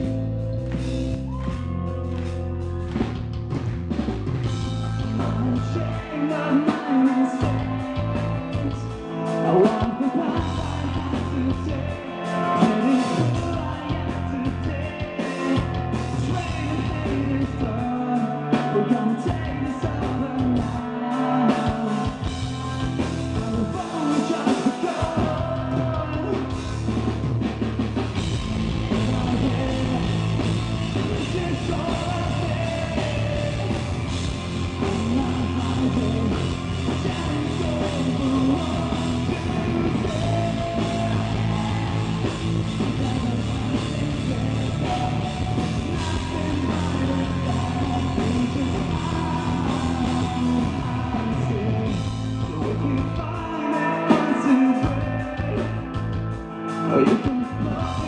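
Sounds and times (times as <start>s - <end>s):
metal band playing: 0.0s - 58.0s
person singing: 4.8s - 27.0s, 28.9s - 58.0s.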